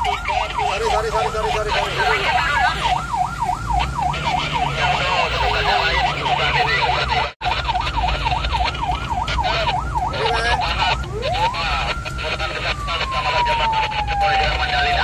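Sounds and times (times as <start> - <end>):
ambulance siren yelping: 0.0 - 15.0
engine and road rumble: 0.0 - 15.0.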